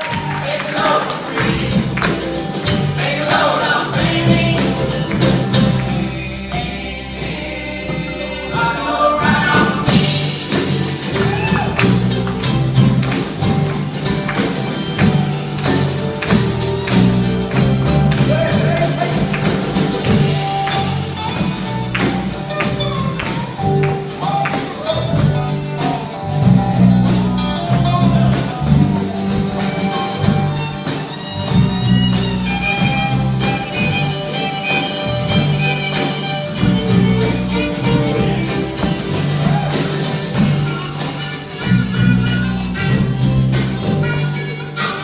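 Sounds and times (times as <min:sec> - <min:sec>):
live band playing: 0:00.0 - 0:45.0.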